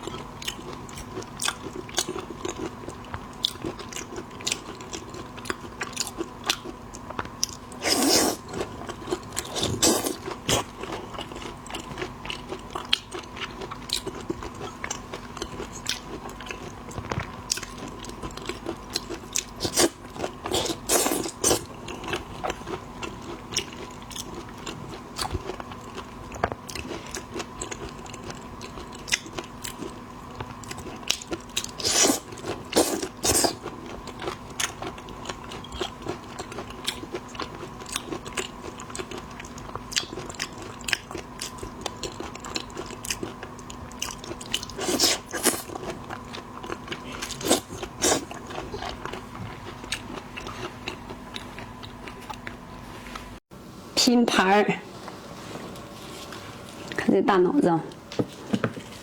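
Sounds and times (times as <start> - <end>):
crunching and chewing shellfish: 0.0 - 53.3.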